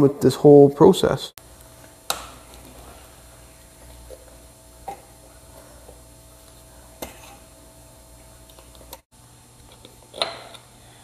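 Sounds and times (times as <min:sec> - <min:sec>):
steady low hum: 0:01.2 - 0:11.0.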